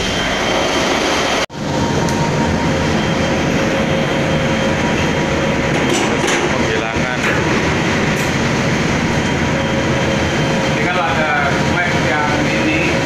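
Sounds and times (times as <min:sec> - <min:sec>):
faint steady machine whine: 0:00.0 - 0:13.0
workshop machinery rumbling: 0:00.0 - 0:13.0.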